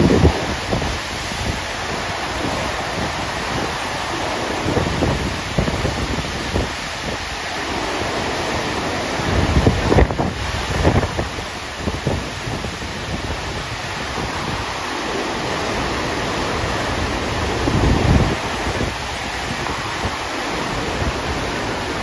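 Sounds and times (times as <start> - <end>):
rush of pumped water: 0.0 - 22.0
wind on microphone: 0.0 - 22.0.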